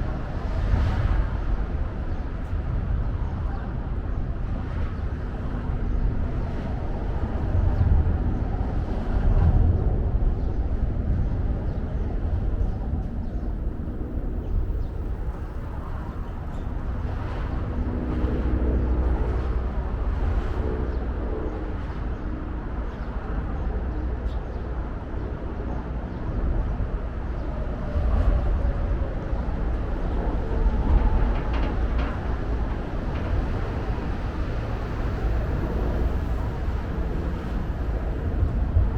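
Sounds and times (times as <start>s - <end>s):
deep engine-like hum: 0.0s - 38.9s
rumble of passing vehicles: 0.0s - 38.9s.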